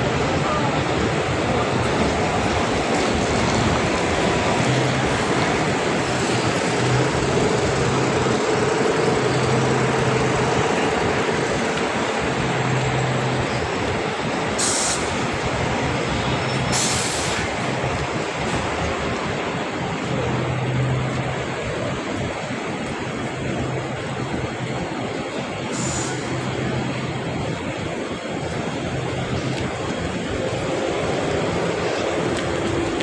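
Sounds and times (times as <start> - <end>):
rail vehicle rumbling: 0.0 - 33.0.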